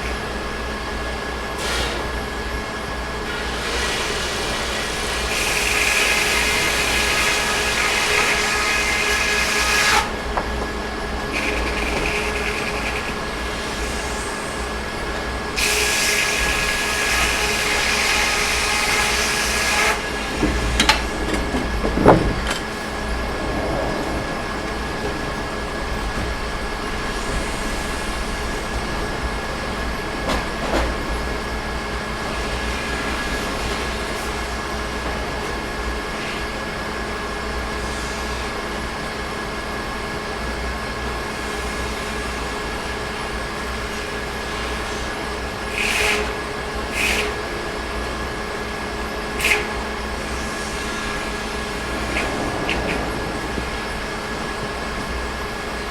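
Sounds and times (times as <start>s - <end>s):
sawmill engine running: 0.0s - 55.9s.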